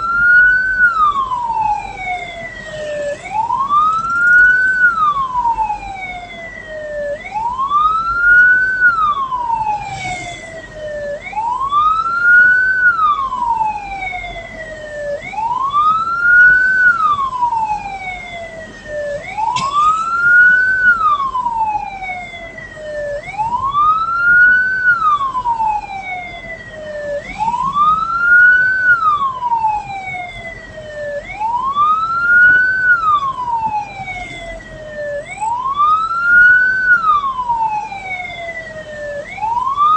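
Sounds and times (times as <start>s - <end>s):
siren wailing: 0.0s - 39.9s.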